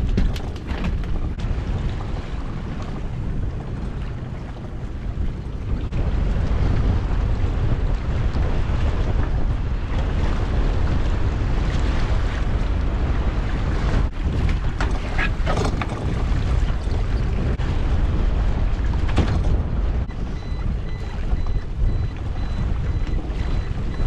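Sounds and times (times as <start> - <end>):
waves lapping: 0.0 - 24.0
wind buffeting microphone: 0.0 - 24.0.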